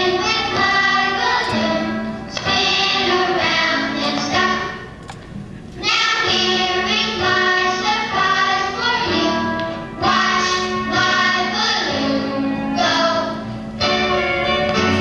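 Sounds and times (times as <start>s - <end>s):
children's song with child-like singing: 0.0s - 5.0s, 5.8s - 15.0s
instrumental accompaniment: 0.0s - 15.0s.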